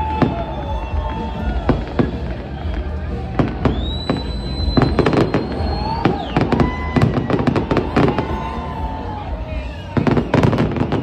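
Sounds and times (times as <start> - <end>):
high rising firework whistle: 0.0 - 2.7, 3.4 - 11.0
fireworks bangs and crackling: 0.0 - 11.0.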